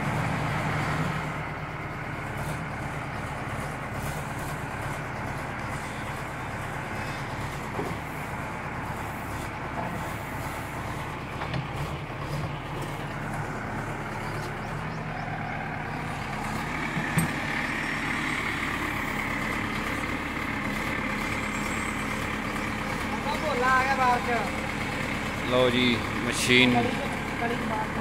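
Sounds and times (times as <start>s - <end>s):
diesel engine under load: 0.0s - 28.0s.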